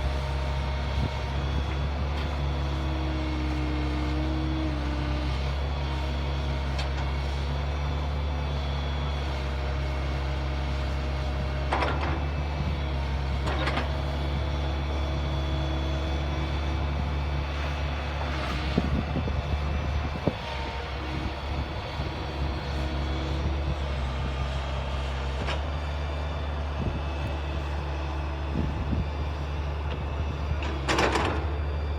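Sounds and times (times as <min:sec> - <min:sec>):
excavator engine humming: 0:00.0 - 0:31.9.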